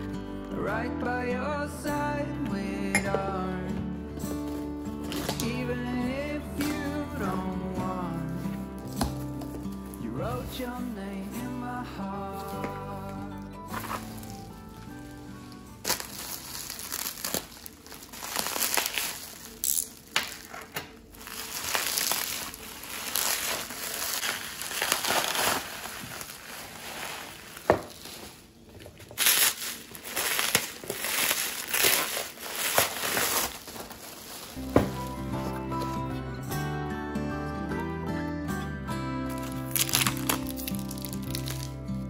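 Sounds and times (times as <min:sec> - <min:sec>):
bubble wrap and cardboard crinkling: 0:03.4 - 0:36.3, 0:39.2 - 0:42.0.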